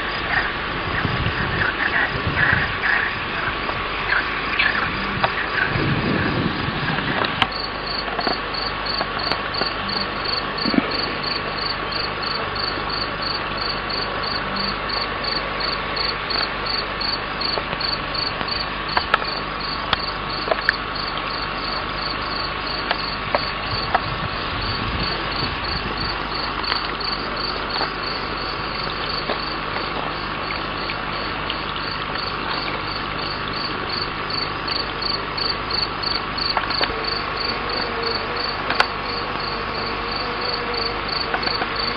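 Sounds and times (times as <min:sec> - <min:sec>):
insect chirping: 0:00.0 - 0:41.9.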